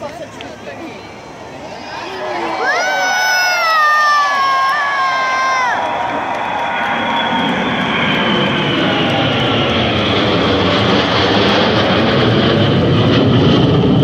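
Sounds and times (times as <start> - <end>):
jet aircraft roar overhead: 0.0 - 14.0
high whine falling in pitch: 1.2 - 13.2.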